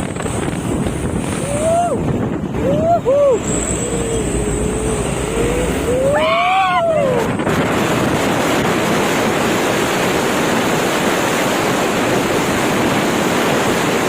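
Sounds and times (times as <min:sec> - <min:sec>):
loud rushing noise: 0:00.0 - 0:14.0.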